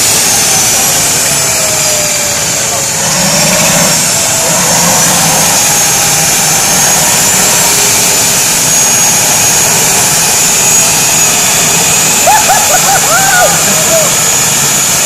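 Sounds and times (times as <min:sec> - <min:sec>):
high turbine whine: 0:00.0 - 0:15.0
turbojet engine rushing: 0:00.0 - 0:15.0.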